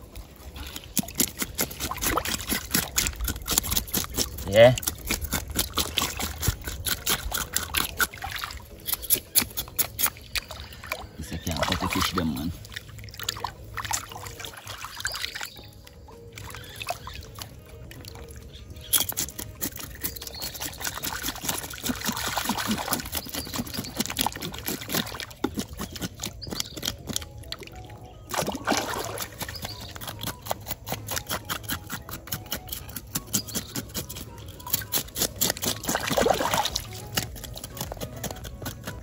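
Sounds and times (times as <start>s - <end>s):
water sloshing: 0.0s - 31.7s, 35.0s - 39.0s
water splashing and trickling: 0.0s - 39.0s.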